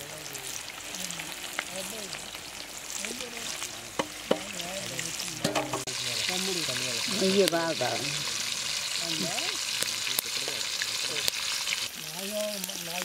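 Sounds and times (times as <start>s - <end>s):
chicken deep-frying in oil: 0.0s - 13.0s
oil crackling: 0.0s - 13.0s.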